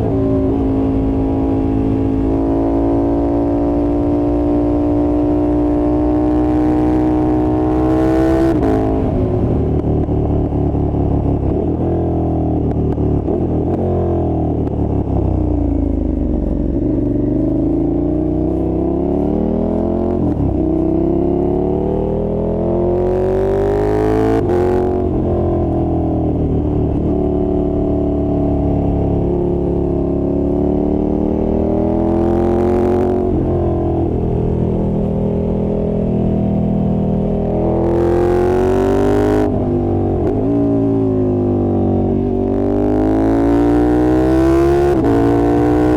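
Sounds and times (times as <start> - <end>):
motorcycle engine accelerating hard: 0.0 - 45.9.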